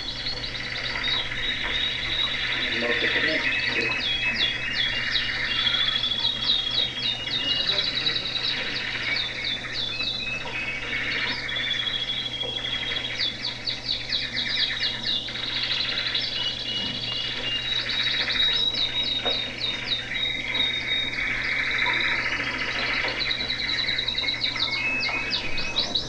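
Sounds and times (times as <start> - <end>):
canaries singing: 0.0 - 26.0
low steady hum: 0.0 - 26.0.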